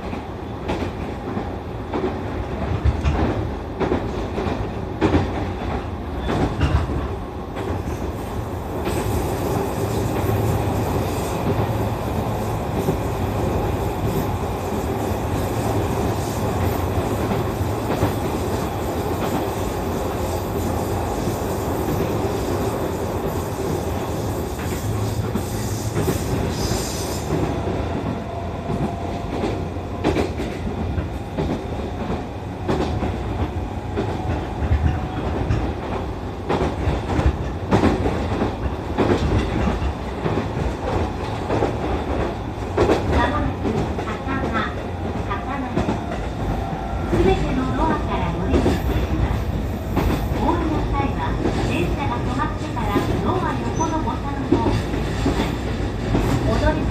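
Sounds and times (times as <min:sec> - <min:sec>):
train rumble: 0:00.0 - 0:56.9.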